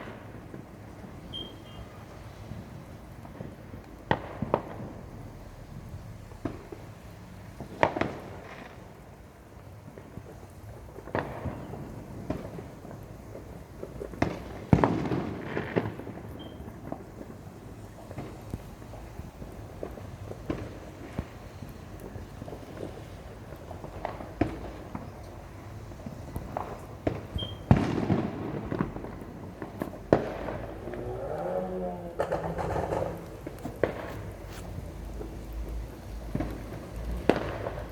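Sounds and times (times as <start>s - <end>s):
fireworks bangs: 0.0s - 37.9s
fireworks crackling: 0.0s - 37.9s.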